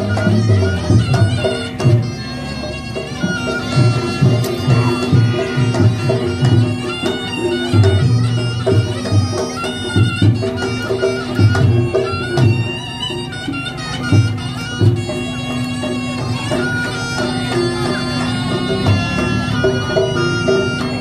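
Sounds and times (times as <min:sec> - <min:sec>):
drum strokes: 0:00.0 - 0:21.0
shawm melody: 0:00.0 - 0:21.0.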